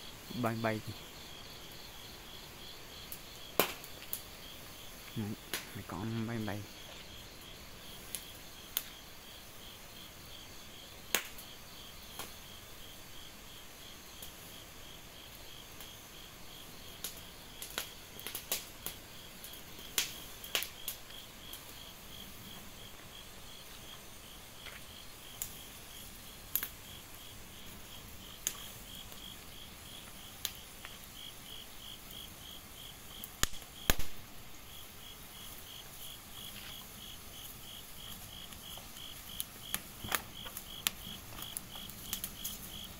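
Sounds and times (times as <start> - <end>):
crickets chirping: 0.0 - 42.9
fire crackling and popping: 0.0 - 42.9.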